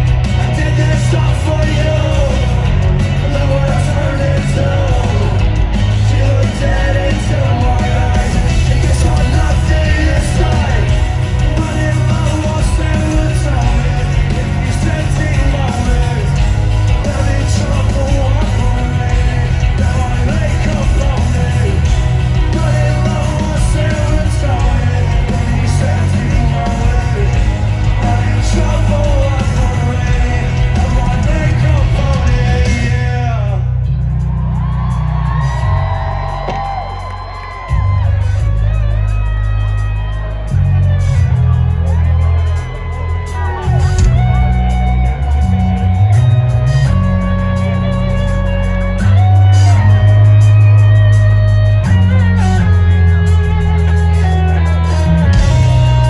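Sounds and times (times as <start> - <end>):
live rock music with singing: 0.0 - 56.0.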